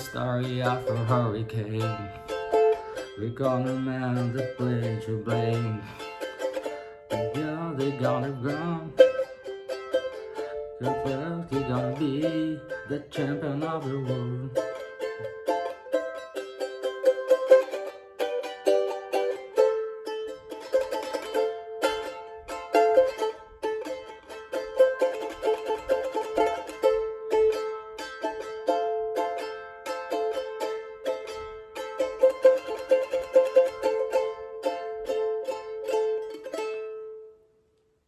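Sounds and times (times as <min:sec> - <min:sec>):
ukulele strummed fast: 0:00.0 - 0:37.2.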